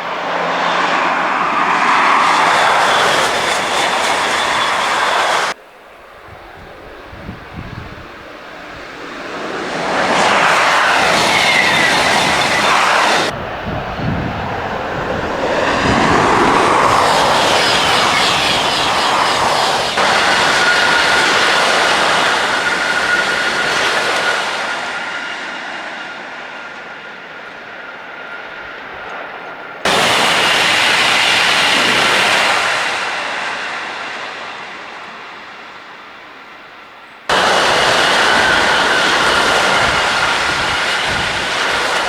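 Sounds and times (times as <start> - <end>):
high-speed trains passing: 0.0 - 42.0
steady high whine: 0.0 - 42.0.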